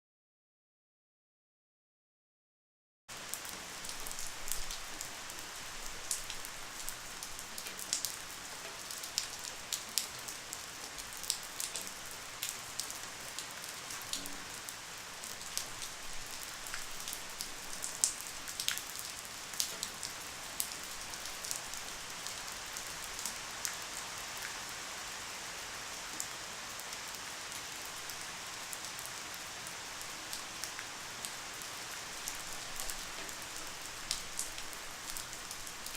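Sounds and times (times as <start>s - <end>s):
light rain pattering: 3.1s - 35.9s.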